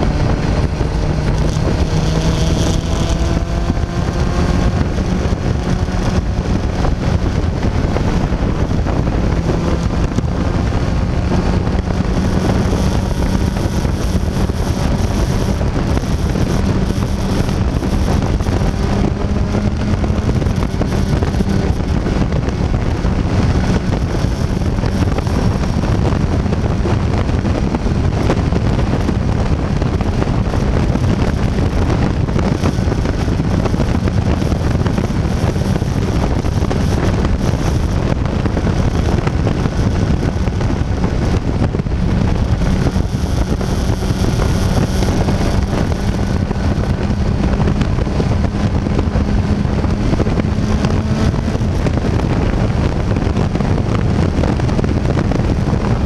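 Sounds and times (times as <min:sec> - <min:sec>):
motorcycle engine drone: 0:00.0 - 0:56.0
wind rushing on microphone: 0:00.0 - 0:56.0.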